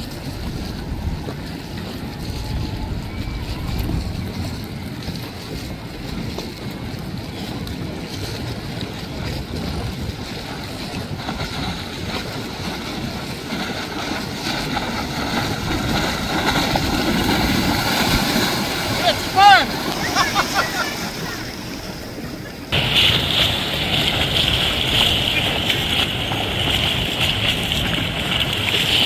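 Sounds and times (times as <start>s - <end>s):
boat hull splashing: 0.0s - 29.0s
choppy water: 0.0s - 29.0s
wind buffeting microphone: 0.0s - 29.0s.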